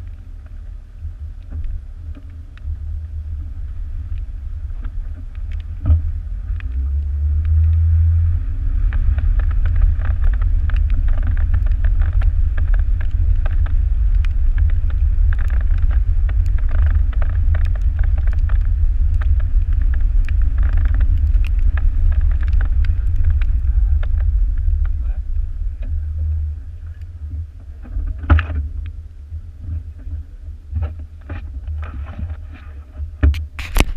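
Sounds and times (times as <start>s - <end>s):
car engine hum: 0.0s - 30.5s
gravel crackling under tyres: 0.0s - 33.9s
wind rumble on microphone: 0.0s - 33.9s.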